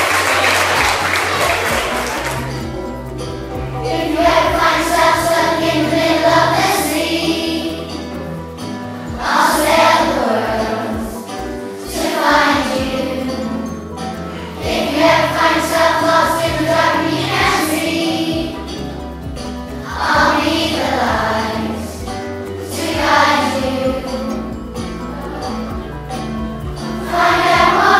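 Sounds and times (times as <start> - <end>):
children singing in unison: 1.5 - 27.9.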